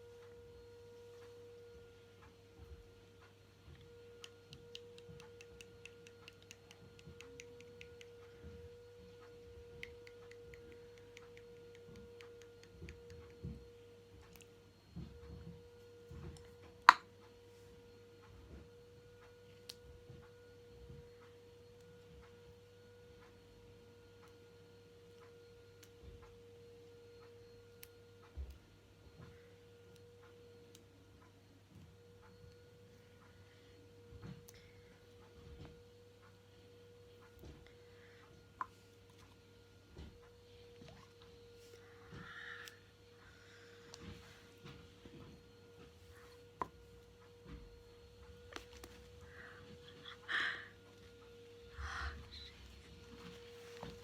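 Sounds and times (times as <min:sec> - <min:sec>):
faint hum with held tone: 0:00.0 - 0:54.0.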